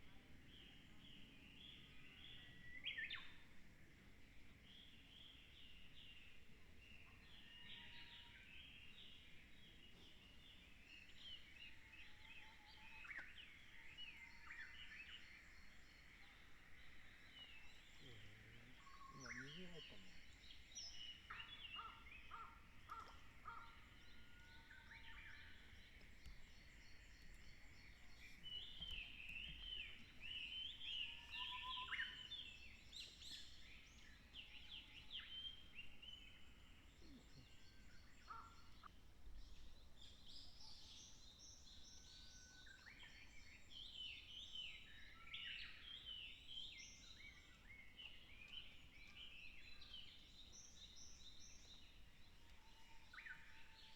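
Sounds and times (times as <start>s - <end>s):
faint songbird chirping: 0.0s - 53.9s.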